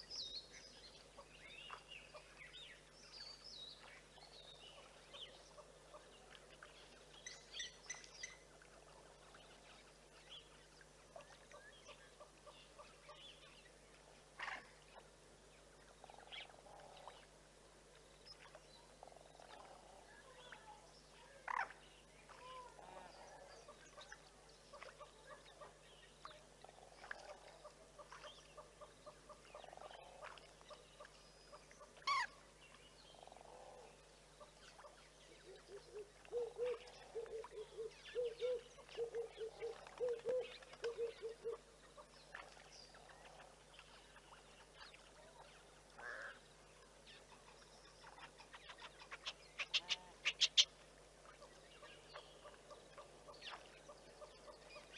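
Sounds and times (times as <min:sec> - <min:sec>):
wild bird calls and chirps: 0:00.0 - 0:54.9.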